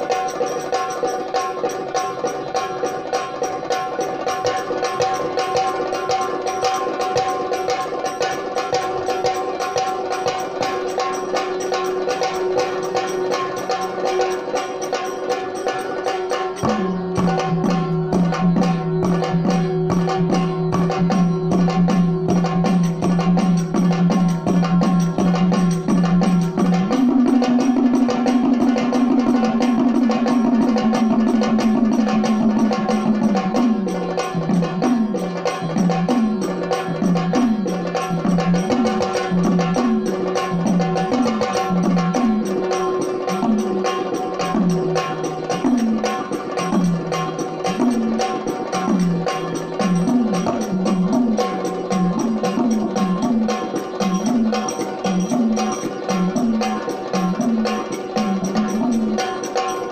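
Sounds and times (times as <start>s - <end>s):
fast hand drumming: 0.0s - 59.9s.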